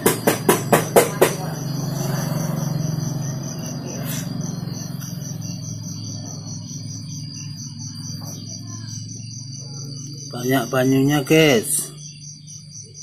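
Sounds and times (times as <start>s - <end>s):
crickets chirping: 0.0s - 13.0s
steady low hum: 0.0s - 13.0s.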